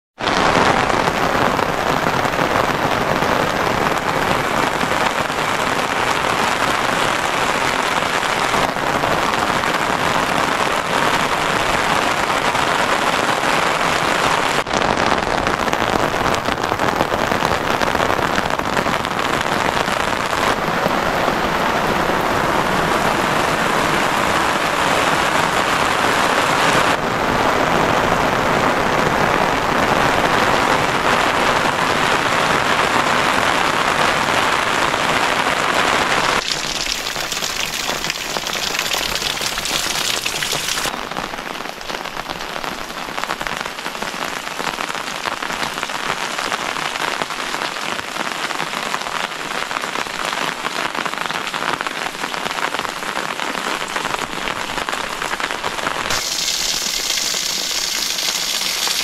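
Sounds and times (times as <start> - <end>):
heavy rainfall: 0.2 - 59.0.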